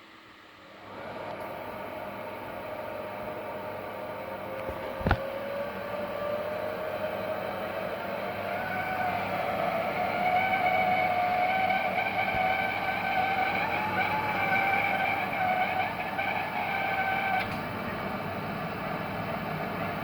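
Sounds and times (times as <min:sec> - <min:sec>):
oil burner running: 0:00.0 - 0:20.0
high wavering whine: 0:01.5 - 0:20.0.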